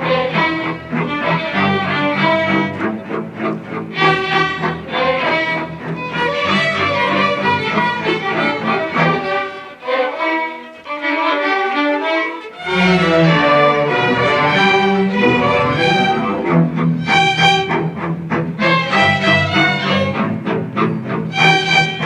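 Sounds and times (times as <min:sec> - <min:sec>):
low strings: 0:00.0 - 0:22.0
violins playing: 0:00.0 - 0:22.0.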